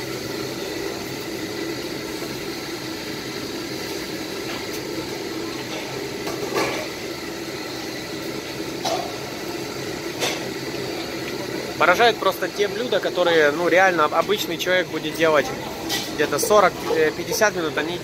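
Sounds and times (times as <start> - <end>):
gas wok stoves roaring: 0.0 - 18.0.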